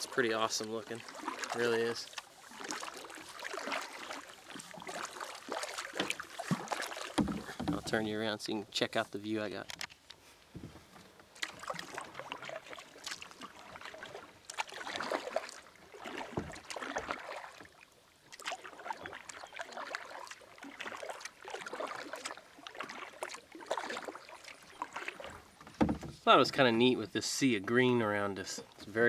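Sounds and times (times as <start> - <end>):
paddle splashing in water: 0.0 - 29.0.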